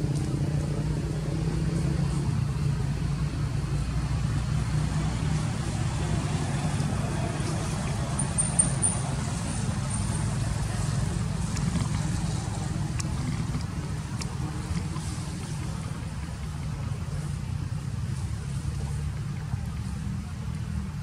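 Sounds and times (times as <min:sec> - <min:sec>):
motor vehicle humming: 0:00.0 - 0:21.0.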